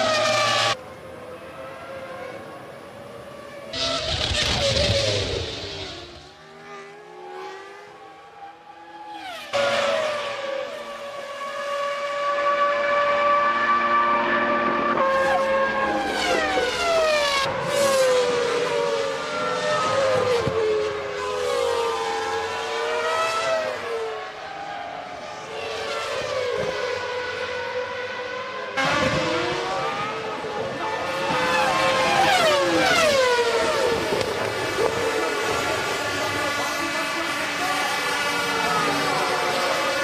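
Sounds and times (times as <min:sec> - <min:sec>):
racing car engines screaming: 0:00.0 - 0:00.8, 0:01.4 - 0:40.0.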